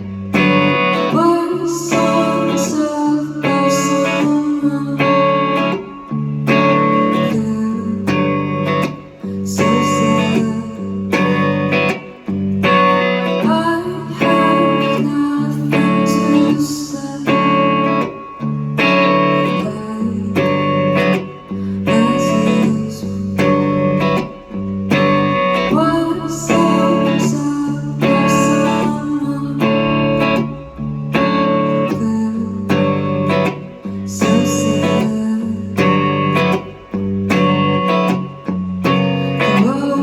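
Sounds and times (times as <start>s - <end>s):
live guitar band music: 0.0s - 40.0s.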